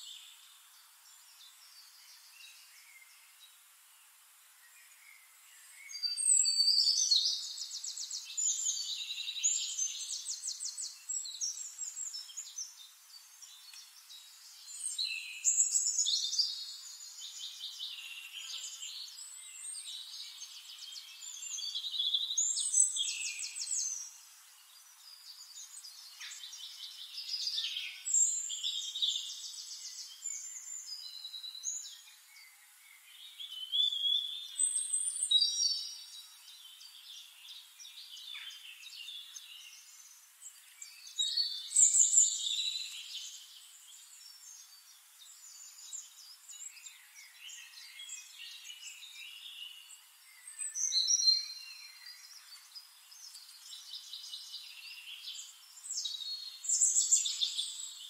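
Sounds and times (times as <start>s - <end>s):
songbird trilling and chirping: 4.9s - 58.0s.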